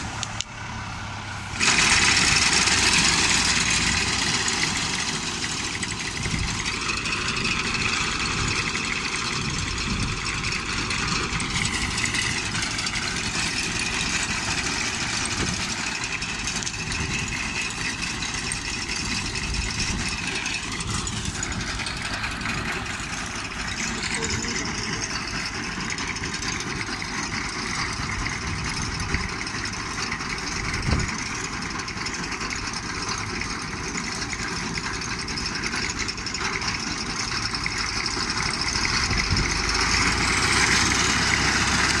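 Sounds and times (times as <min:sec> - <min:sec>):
tractor engine running: 0:00.0 - 0:42.0
high mechanical whine: 0:01.3 - 0:42.0.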